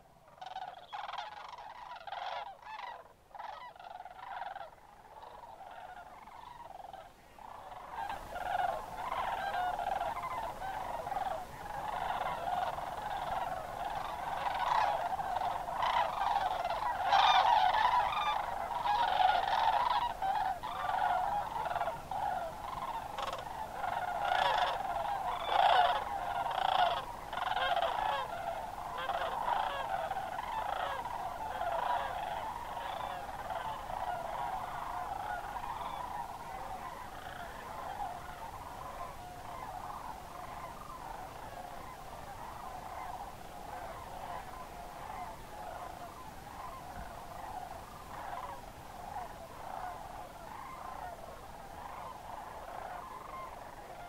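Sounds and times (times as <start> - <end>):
flock of cranes calling: 0.0 - 54.0.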